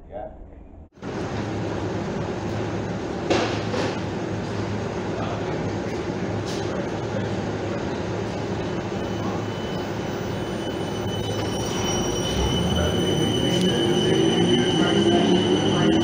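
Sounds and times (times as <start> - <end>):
train rumble: 0.8 - 16.0
high train whine: 0.9 - 16.0.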